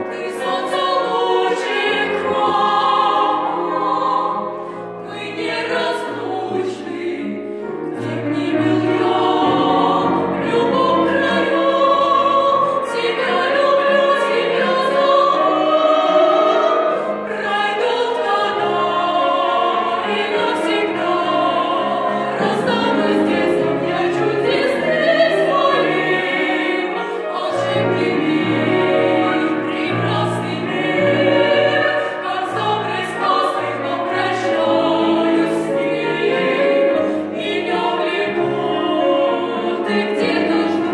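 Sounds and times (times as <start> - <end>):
piano accompaniment: 0.0 - 40.9
vocal ensemble singing: 0.0 - 40.9.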